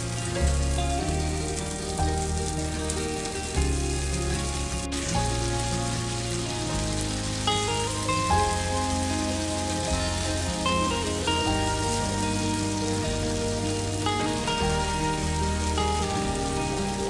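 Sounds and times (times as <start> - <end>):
background music with bass line: 0.0 - 17.0
shrimp sizzling in oil: 0.0 - 17.0.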